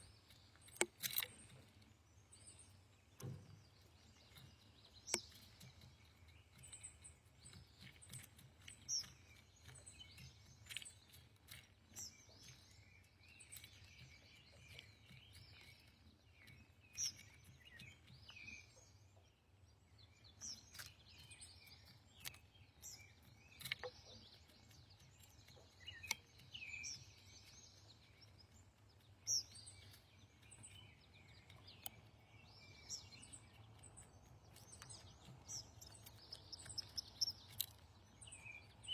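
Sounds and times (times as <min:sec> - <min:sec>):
songbird chirps: 0:00.0 - 0:38.9.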